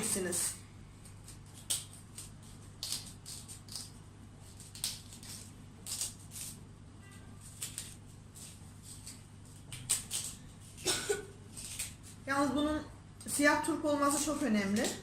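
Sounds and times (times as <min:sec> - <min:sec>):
knife scraping radish: 0:00.0 - 0:12.3, 0:13.3 - 0:15.0.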